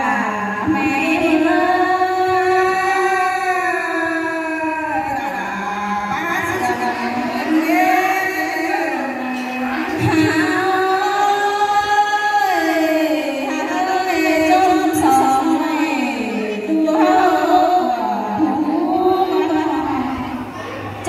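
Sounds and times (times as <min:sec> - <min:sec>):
woman singing into a microphone: 0:00.0 - 0:20.8.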